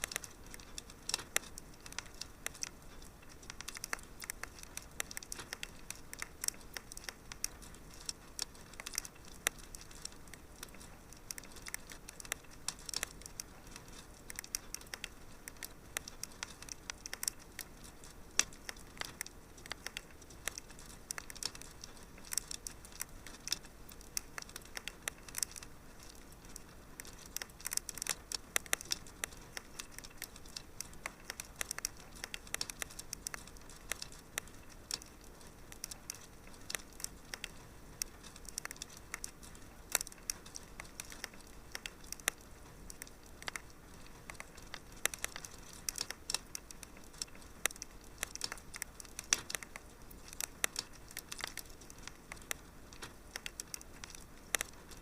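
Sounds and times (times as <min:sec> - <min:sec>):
fire crackling: 0:00.0 - 0:55.0.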